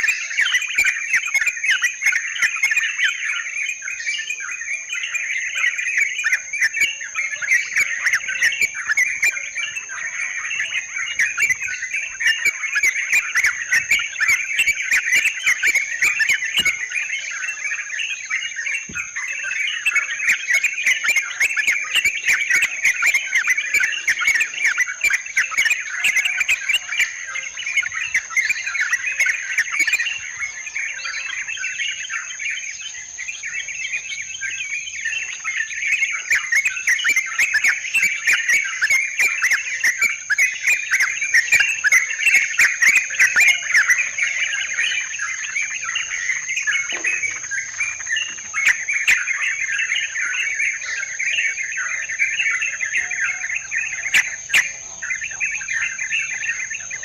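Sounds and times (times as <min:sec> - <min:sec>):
bulbuls chattering and calling: 0:00.0 - 0:57.0.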